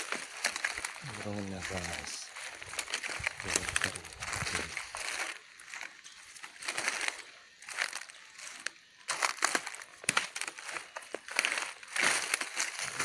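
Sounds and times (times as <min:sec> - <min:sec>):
brushing through undergrowth: 0:00.0 - 0:13.0
footsteps crunching dry leaves: 0:00.0 - 0:13.0.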